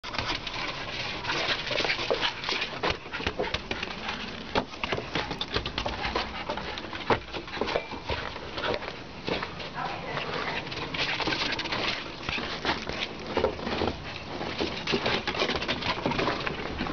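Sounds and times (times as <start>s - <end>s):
paws and ball scuffing on deck: 0.1s - 16.9s.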